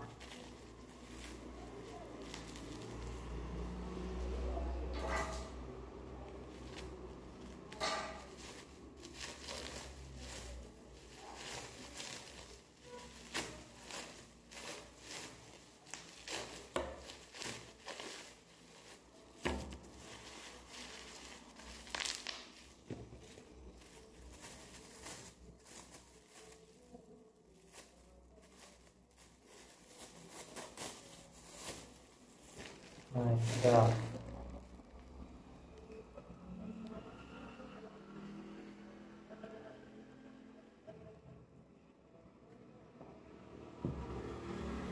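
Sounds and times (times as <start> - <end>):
plastic bags crinkling: 0.0 - 36.0.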